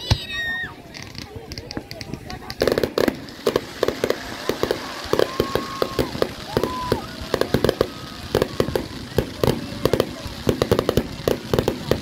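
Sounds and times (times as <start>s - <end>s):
fireworks crackling bangs: 0.0s - 12.0s.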